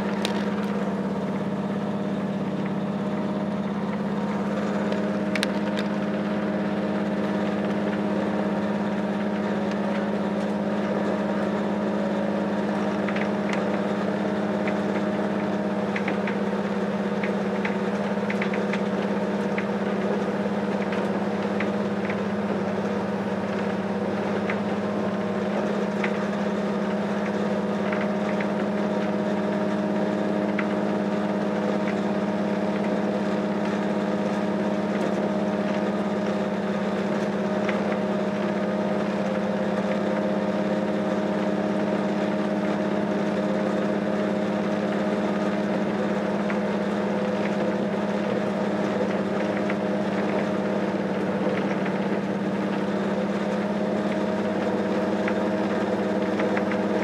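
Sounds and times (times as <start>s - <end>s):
railcar engine hum: 0.0s - 57.0s.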